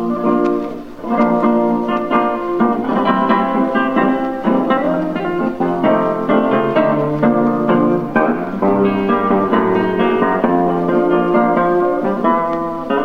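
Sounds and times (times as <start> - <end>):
guitars playing tango: 0.0 - 13.0.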